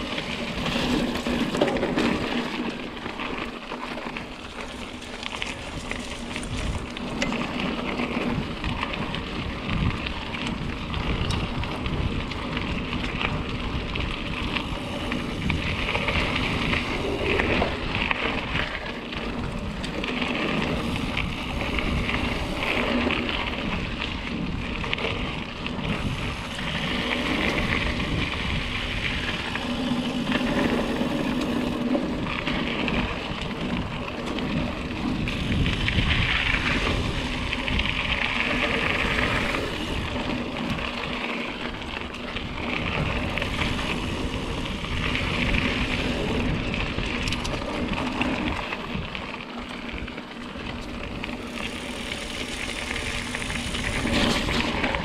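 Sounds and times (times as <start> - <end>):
bike rattling: 0.0 - 55.0
tyres rumbling over rough ground: 0.0 - 55.0
wind noise on microphone: 0.0 - 55.0.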